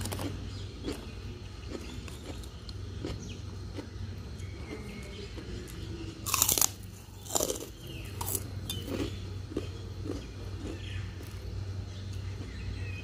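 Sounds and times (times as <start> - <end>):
cracker crunching: 0.0 - 13.0.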